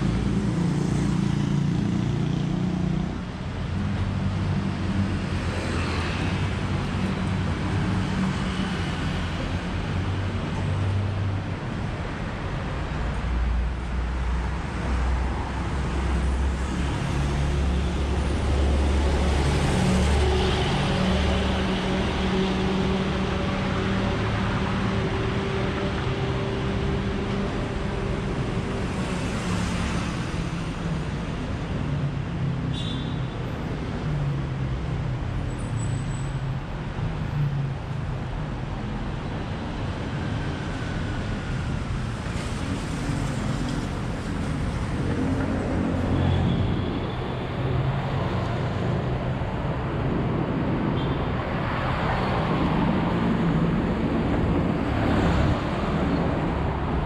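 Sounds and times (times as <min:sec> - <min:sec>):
vehicles passing: 0:00.0 - 0:57.0.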